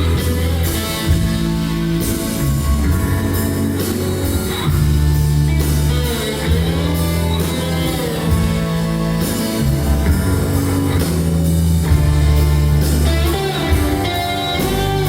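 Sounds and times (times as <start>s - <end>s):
band playing instrumental: 0.0s - 15.0s
guitar: 0.0s - 15.0s.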